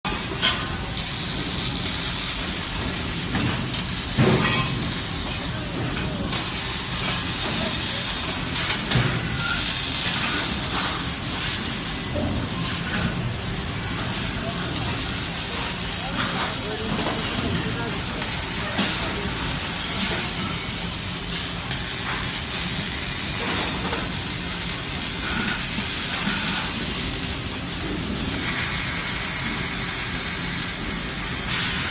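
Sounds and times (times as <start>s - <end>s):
loud industrial hissing: 0.1s - 31.9s.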